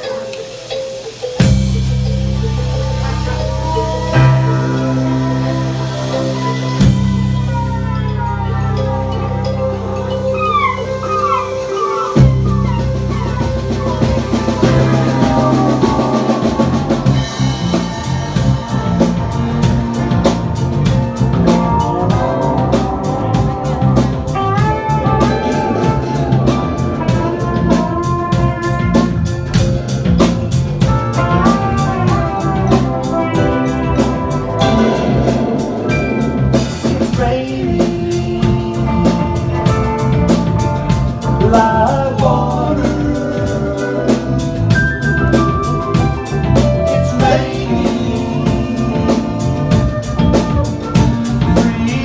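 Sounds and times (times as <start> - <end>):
drum kit steady beat: 0.0 - 52.0
psychedelic rock band instrumental: 0.0 - 52.0.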